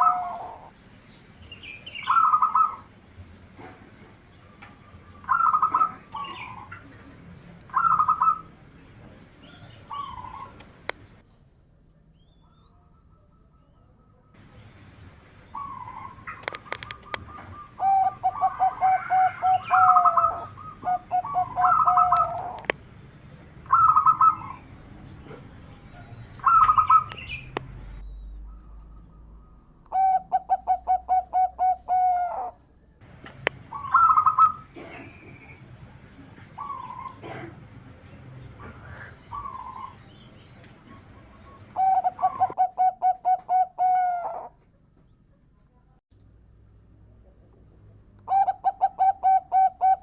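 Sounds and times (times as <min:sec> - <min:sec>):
doves cooing: 0:00.0 - 0:00.8, 0:01.8 - 0:03.0, 0:03.6 - 0:11.2, 0:12.4 - 0:22.8, 0:23.6 - 0:44.8, 0:48.2 - 0:50.0.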